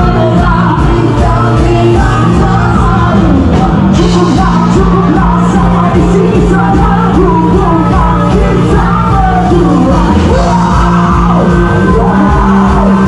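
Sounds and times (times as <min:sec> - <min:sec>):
live rock band playing: 0:00.0 - 0:13.0
person singing: 0:00.0 - 0:13.0.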